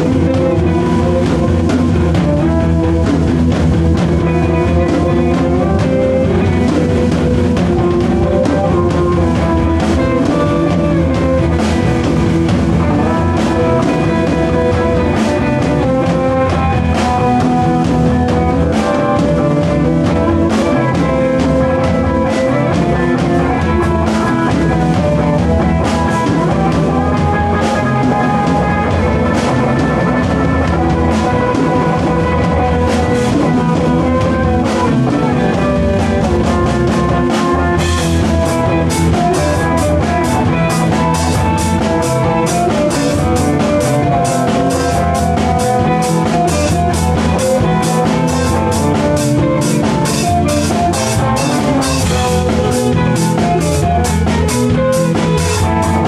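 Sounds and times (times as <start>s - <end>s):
rock band playing: 0.0s - 56.0s
steady drumming: 0.0s - 56.0s
sustained electric guitar notes: 0.0s - 56.0s.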